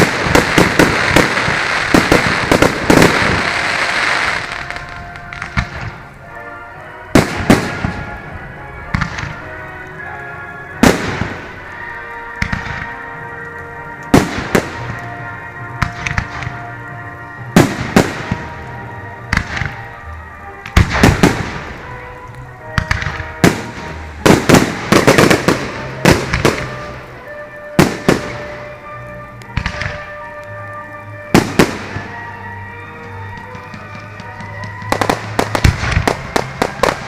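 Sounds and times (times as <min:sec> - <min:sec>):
fireworks banging and crackling: 0:00.0 - 0:37.0
music: 0:00.0 - 0:37.0.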